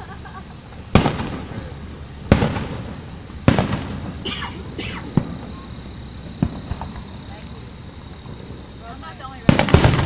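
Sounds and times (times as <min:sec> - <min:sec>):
firework crackle: 0:00.0 - 0:10.0
firework booms echoing: 0:00.9 - 0:10.0.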